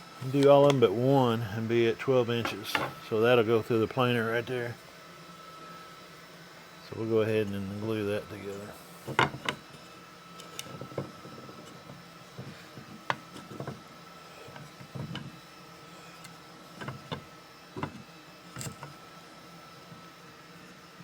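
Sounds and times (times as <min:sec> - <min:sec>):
faint high hum: 0:00.0 - 0:21.0.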